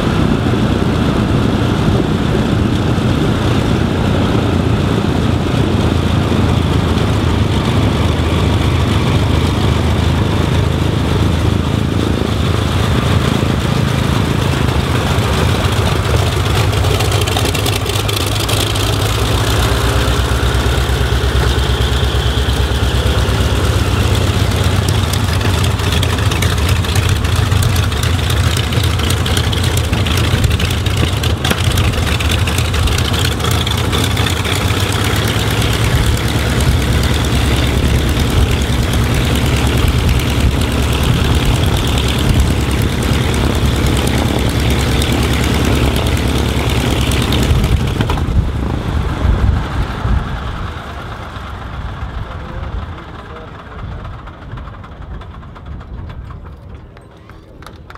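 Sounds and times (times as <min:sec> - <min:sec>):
radial aircraft engine running: 0:00.0 - 0:57.9.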